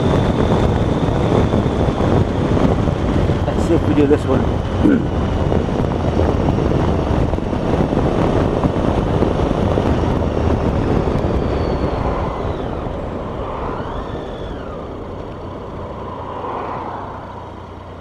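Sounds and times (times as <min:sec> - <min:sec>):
motorcycle engine: 0:00.0 - 0:18.0
wind rush on microphone: 0:00.0 - 0:18.0.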